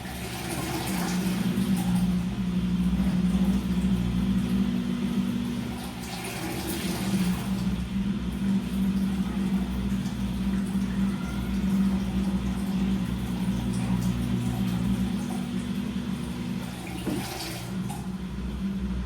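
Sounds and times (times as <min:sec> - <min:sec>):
washing machine humming: 0:00.0 - 0:19.0
water rushing and swishing: 0:00.0 - 0:19.0.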